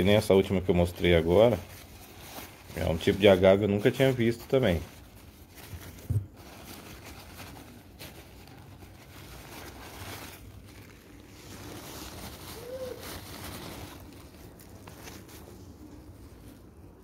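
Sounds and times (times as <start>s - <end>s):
packing paper rustling: 0.0s - 17.0s.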